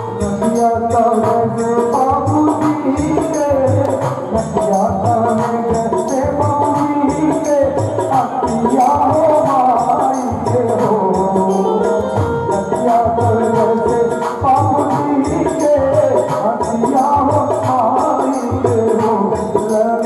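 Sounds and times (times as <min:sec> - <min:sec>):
wavering melody: 0:00.0 - 0:16.2
high jingling percussion: 0:00.0 - 0:20.0
tabla style hand drum: 0:00.0 - 0:20.0.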